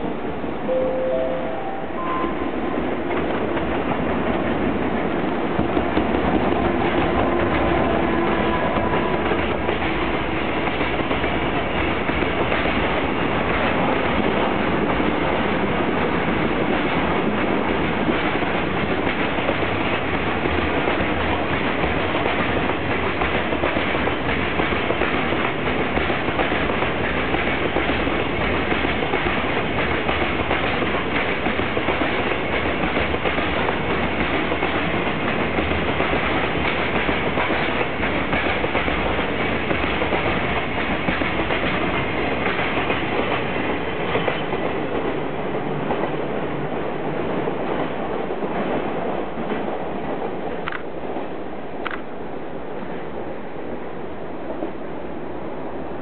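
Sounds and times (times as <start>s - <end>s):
train wheels clattering over rails: 3.0s - 51.0s.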